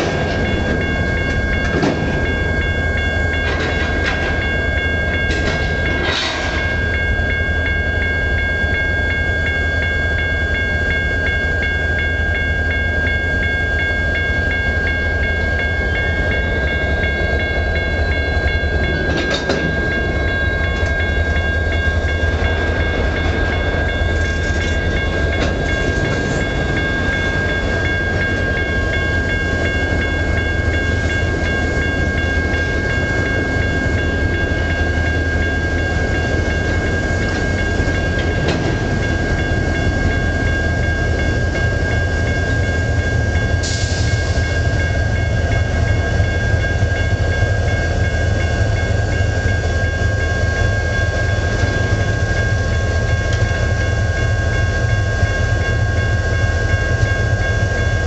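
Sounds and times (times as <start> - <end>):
high whine: 0.0 - 58.0
train wheels rumbling on rail: 0.0 - 58.0.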